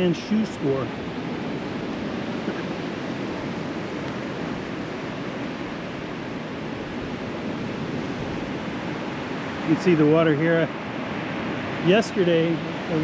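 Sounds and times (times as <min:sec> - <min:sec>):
surf rushing: 0:00.0 - 0:13.0
wind: 0:00.0 - 0:13.0.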